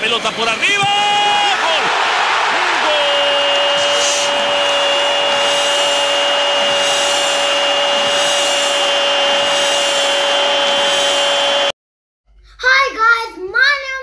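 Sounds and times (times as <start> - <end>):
stadium crowd roar: 0.0 - 11.7.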